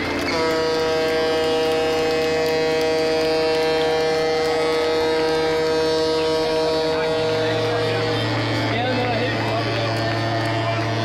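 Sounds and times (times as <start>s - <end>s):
ship's horn blast: 0.0s - 11.0s.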